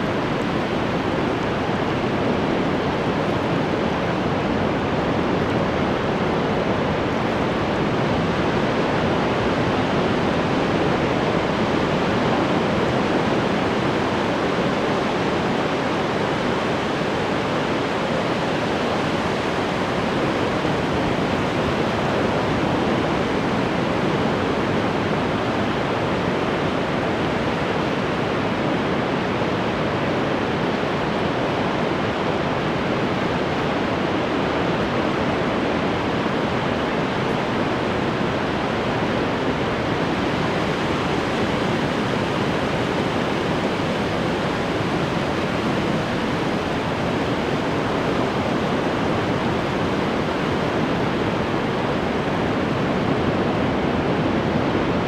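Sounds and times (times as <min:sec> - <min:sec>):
ocean surf: 0:00.0 - 0:55.0.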